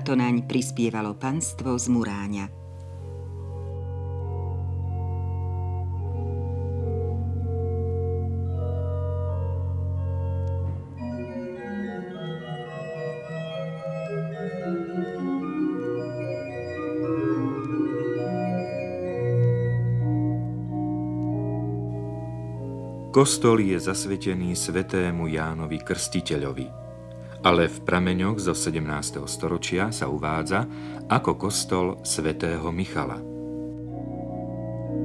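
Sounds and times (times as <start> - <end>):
organ music: 0.0 - 35.0.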